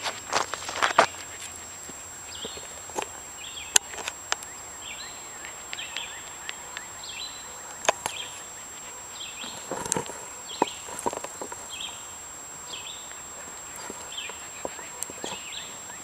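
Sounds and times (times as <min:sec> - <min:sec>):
bird chirping: 0:00.9 - 0:16.0.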